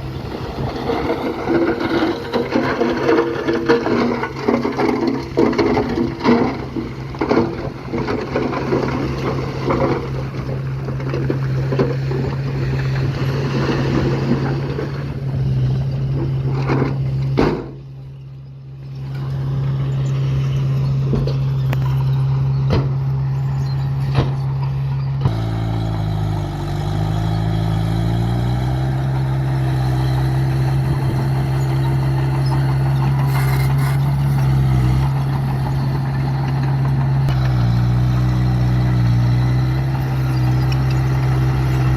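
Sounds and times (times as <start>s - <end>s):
diesel machinery engine running: 0.0s - 41.9s.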